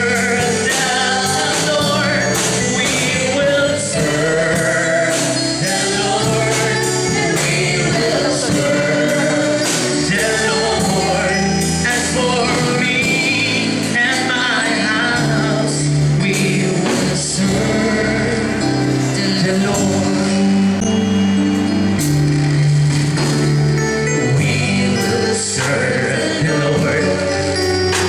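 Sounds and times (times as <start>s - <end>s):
man singing into a microphone: 0.0s - 20.9s, 24.2s - 28.0s
congregation singing: 0.0s - 28.0s
instrumental accompaniment with beat: 0.0s - 28.0s.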